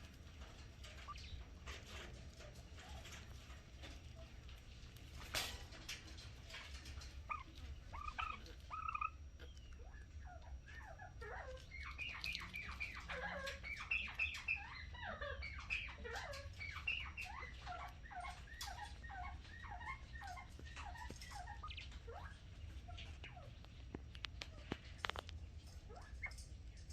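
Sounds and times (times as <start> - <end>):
quails chirping: 0.0 - 26.9
steady low hum: 0.0 - 26.9.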